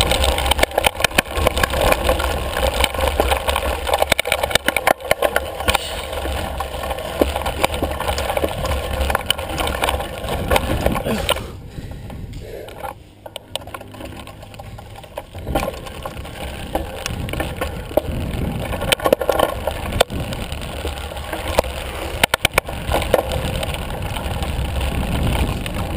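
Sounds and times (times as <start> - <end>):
bike clicks and rattles: 0.0 - 25.9
bike tyres rumbling on gravel: 0.0 - 25.9
wind: 0.0 - 25.9.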